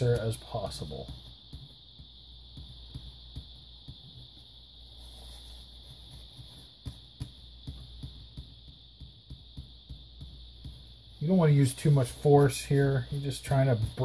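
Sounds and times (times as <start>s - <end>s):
high hiss: 0.0s - 14.0s
paper towel wiping and ticking: 0.0s - 14.0s
steady low hum: 0.0s - 14.0s.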